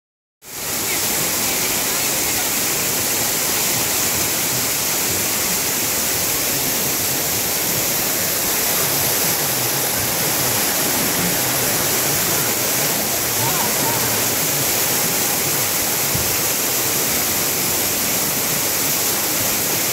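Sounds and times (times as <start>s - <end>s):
water jets spraying: 0.5s - 19.9s.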